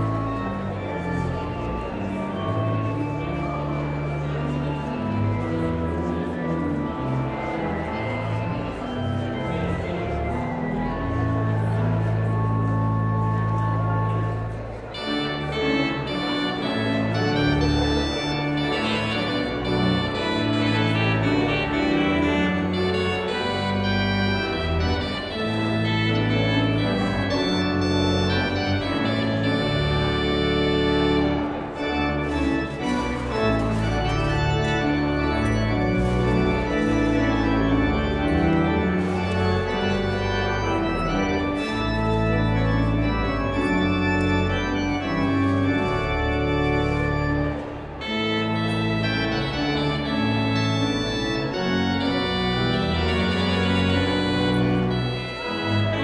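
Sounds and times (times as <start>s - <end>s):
organ music: 0.0s - 56.0s.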